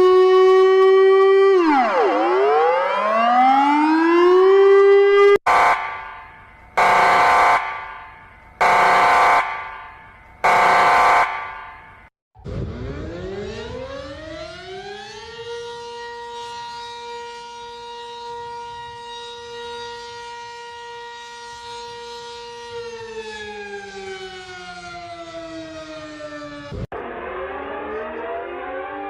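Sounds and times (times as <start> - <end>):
siren wailing: 0.0 - 29.0.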